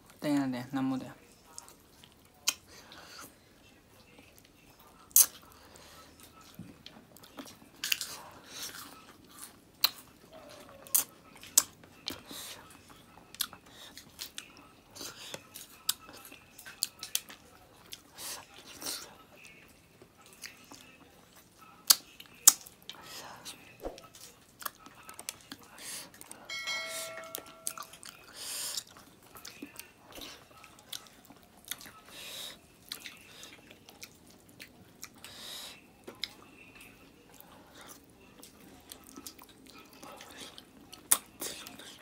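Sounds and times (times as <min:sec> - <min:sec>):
wet chewing: 0:04.2 - 0:26.4, 0:27.7 - 0:42.0.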